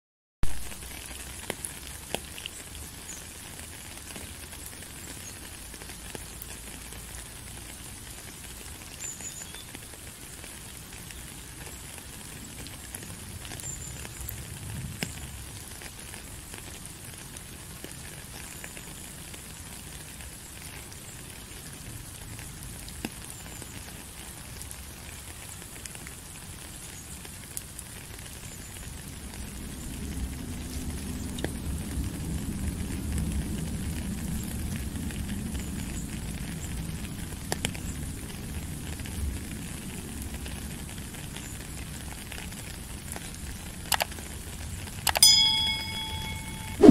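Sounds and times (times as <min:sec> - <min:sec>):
rain on puddle and gravel: 0:00.4 - 0:46.4.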